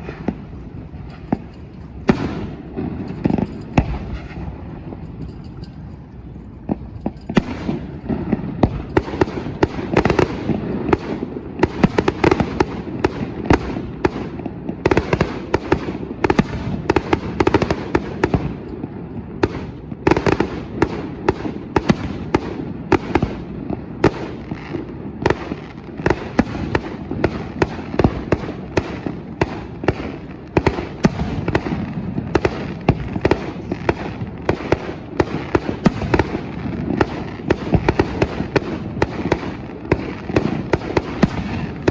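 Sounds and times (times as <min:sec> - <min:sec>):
firework shell bursts: 0:00.0 - 0:41.9.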